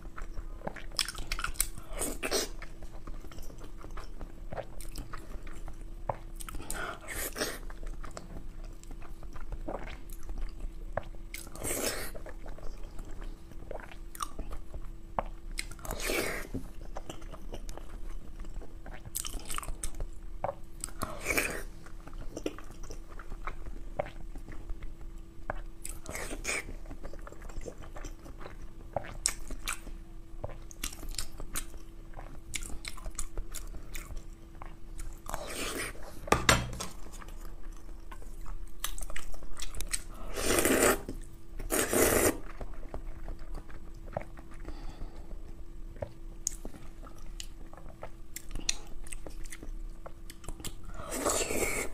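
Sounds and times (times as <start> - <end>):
chewing and wet mouth sounds: 0.0 - 51.9
faint steady hum: 0.0 - 51.9.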